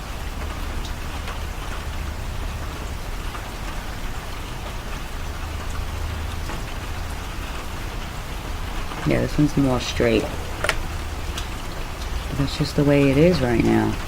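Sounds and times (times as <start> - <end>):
low steady hum: 0.0 - 14.0
rain falling: 0.0 - 14.0.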